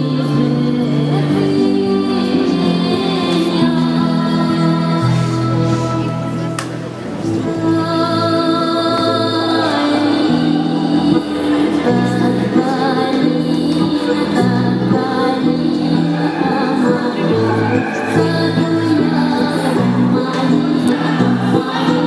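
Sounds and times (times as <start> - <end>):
music with singing voices: 0.0 - 22.0.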